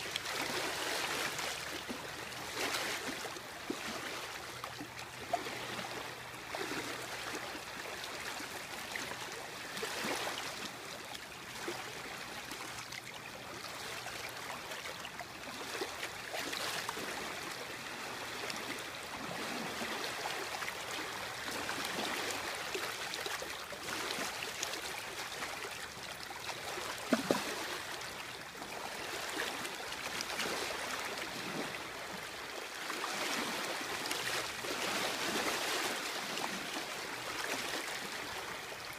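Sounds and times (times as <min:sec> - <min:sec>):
waves lapping at water's edge: 0:00.0 - 0:38.9.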